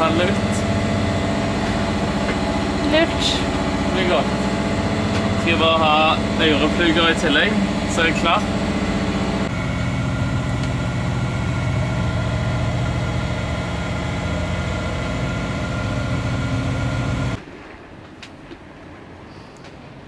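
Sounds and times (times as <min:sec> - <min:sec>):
boat engine running: 0:00.0 - 0:17.4.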